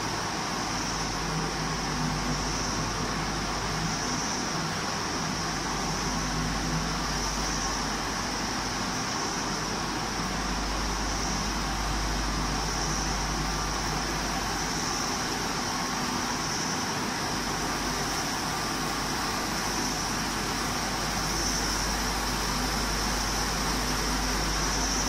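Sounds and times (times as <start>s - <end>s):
industrial machinery drone and hiss: 0.0s - 25.0s.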